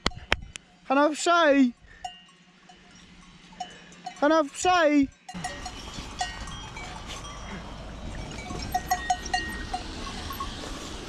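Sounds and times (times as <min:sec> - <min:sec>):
livestock bells clanking: 0:00.0 - 0:11.0.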